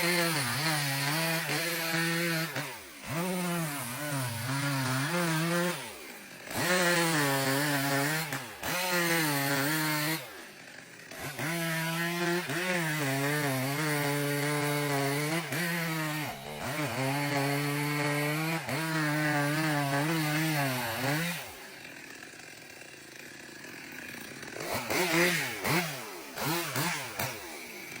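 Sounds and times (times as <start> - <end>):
chainsaw cutting into tree: 0.0 - 28.0.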